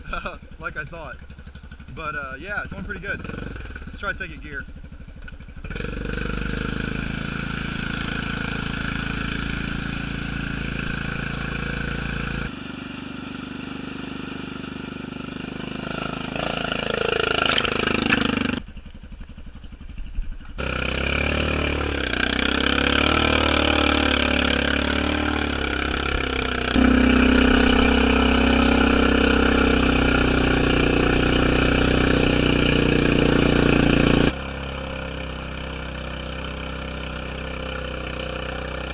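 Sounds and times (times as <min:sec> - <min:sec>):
atv engine running under load: 0:00.0 - 0:38.9.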